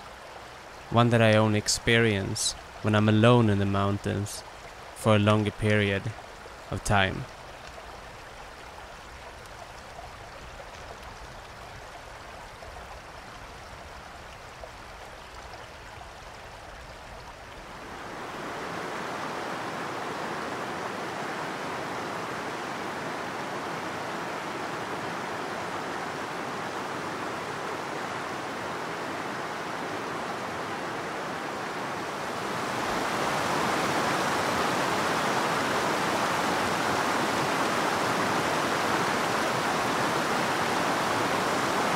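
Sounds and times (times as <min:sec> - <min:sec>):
mountain stream rushing over rocks: 0:00.0 - 0:41.9.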